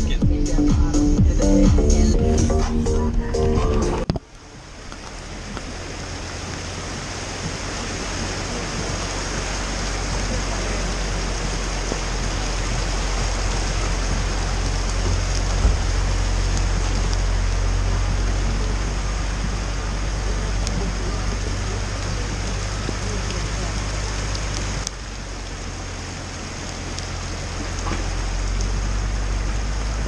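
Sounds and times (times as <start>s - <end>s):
churning floodwater rushing: 0.0s - 30.0s
van engine hum: 0.0s - 30.0s.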